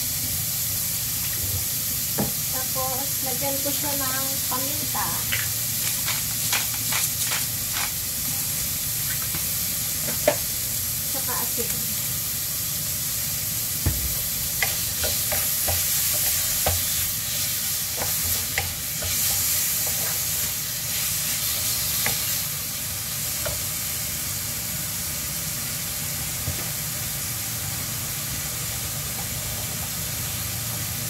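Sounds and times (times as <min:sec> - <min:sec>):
chicken and onions sizzling in a wok: 0:00.0 - 0:31.0.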